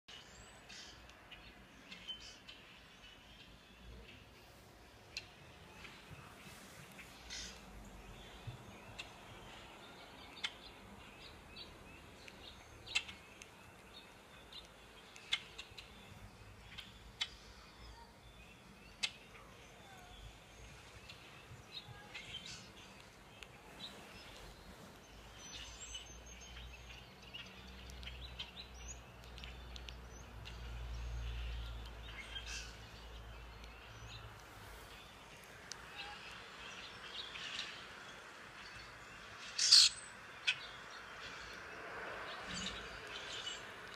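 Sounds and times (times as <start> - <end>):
birds chirping through speaker: 0.1 - 43.9.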